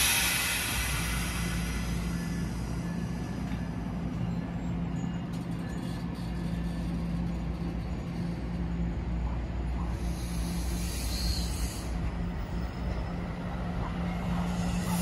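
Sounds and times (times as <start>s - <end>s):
electric locomotive humming: 0.0s - 15.0s.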